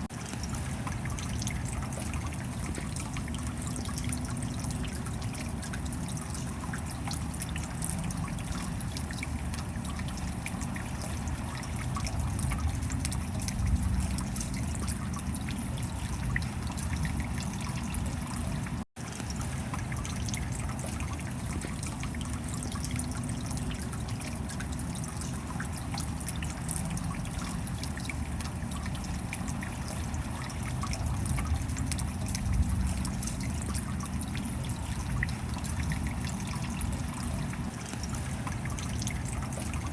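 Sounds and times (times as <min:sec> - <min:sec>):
steady rain: 0:00.0 - 0:39.9
water dripping and trickling: 0:00.0 - 0:39.9.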